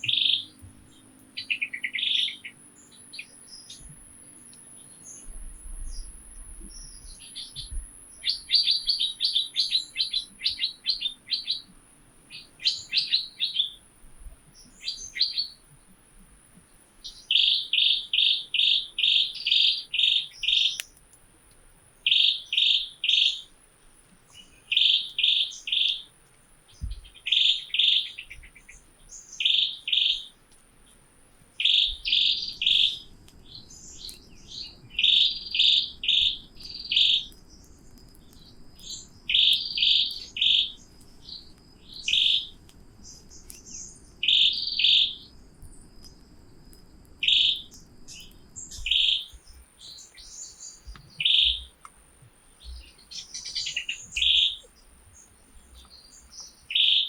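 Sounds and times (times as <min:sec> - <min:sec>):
bird chirping: 0:00.0 - 0:16.0, 0:16.6 - 0:21.0, 0:22.0 - 0:23.6, 0:24.3 - 0:57.0.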